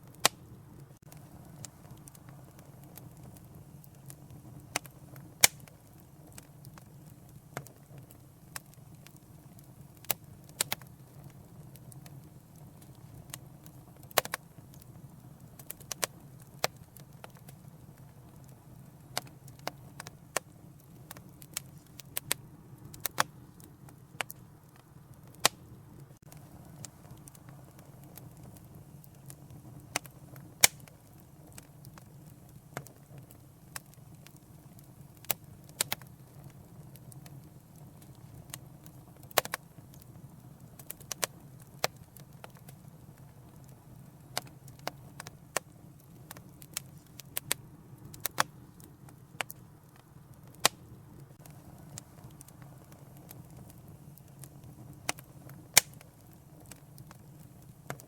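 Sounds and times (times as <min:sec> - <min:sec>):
low rush of burning: 0:00.0 - 0:58.0
wood fire crackling: 0:00.0 - 0:58.0.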